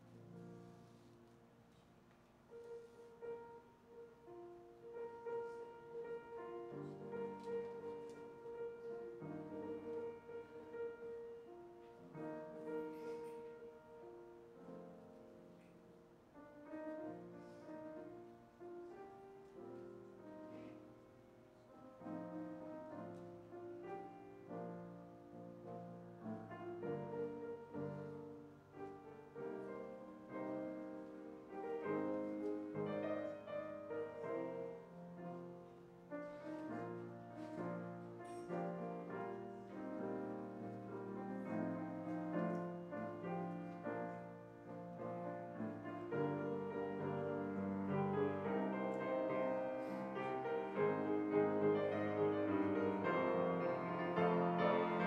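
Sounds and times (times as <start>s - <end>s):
slow gentle piano chords: 0.0s - 55.0s.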